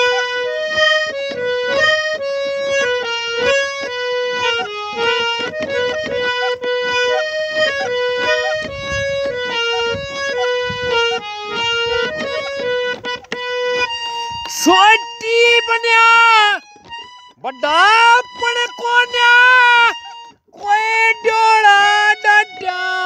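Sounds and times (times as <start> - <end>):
harmonium melody: 0.0 - 23.0.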